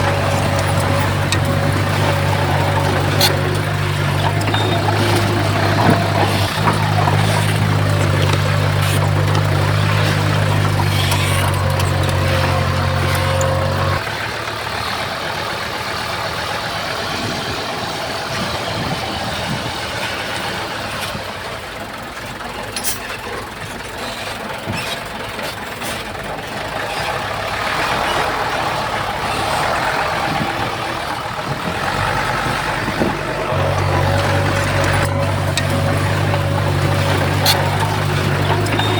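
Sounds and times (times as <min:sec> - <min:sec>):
diesel engine idle drone: 0:00.0 - 0:38.9
rough engine noise: 0:00.0 - 0:38.9.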